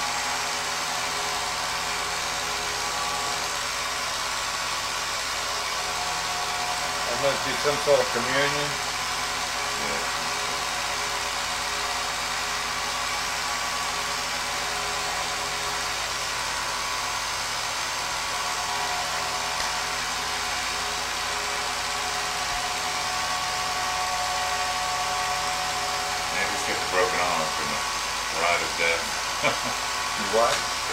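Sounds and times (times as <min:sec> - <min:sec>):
film projector whirring: 0:00.0 - 0:30.9.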